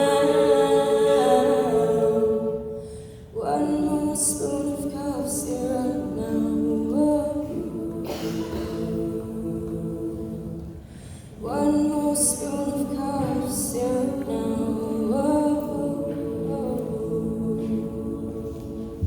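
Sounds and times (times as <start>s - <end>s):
vocal group singing chords: 0.0s - 19.0s.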